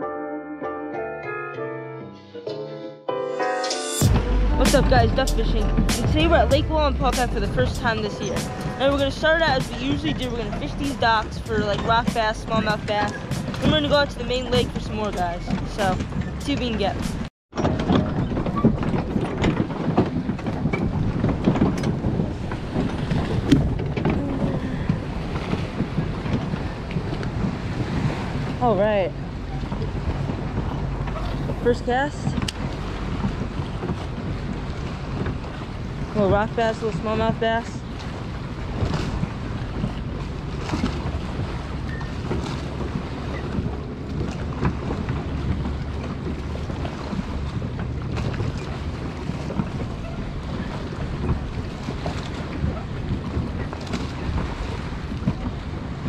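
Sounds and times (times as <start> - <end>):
wind buffeting microphone: 4.0 - 56.0.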